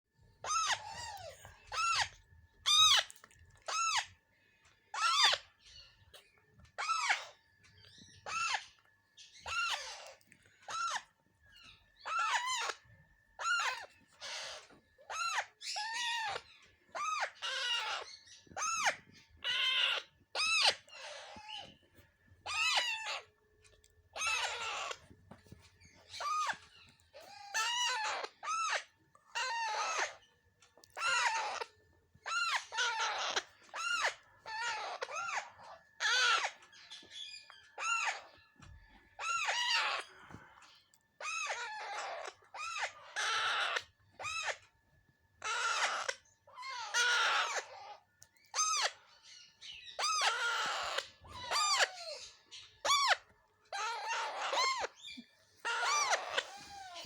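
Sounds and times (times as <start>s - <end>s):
parakeets squawking: 0.4s - 4.2s, 4.9s - 21.8s, 22.4s - 23.3s, 24.1s - 30.3s, 30.9s - 44.6s, 45.4s - 57.0s.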